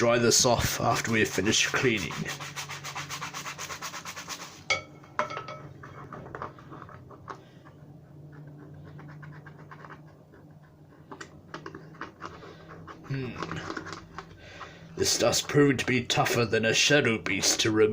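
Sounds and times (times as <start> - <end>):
brush scrubbing plastic: 0.0 - 4.7, 5.8 - 16.5.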